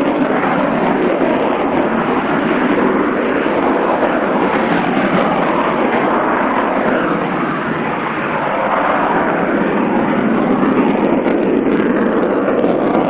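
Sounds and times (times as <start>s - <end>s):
aircraft engines rushing: 0.0s - 13.0s.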